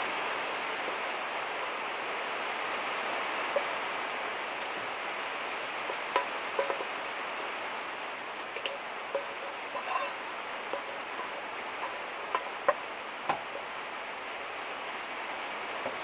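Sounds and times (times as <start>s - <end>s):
rain on a metal roof: 0.0s - 16.0s.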